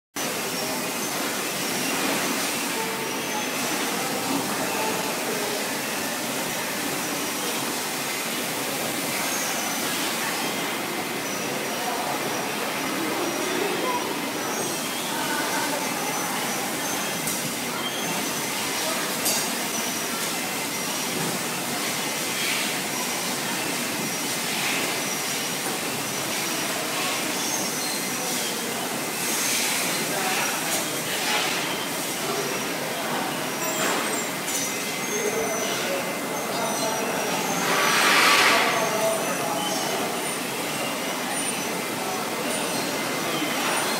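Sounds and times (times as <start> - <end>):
factory floor hiss: 0.2 - 43.9
machinery and fans running: 0.2 - 43.9.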